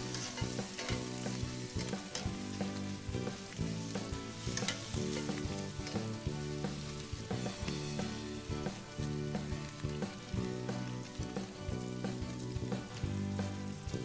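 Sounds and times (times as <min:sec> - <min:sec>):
meat sizzling in butter: 0:00.0 - 0:14.0.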